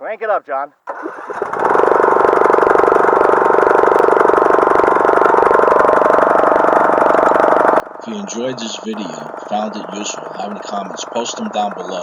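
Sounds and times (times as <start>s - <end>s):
lawn tractor engine running: 0.8s - 12.0s.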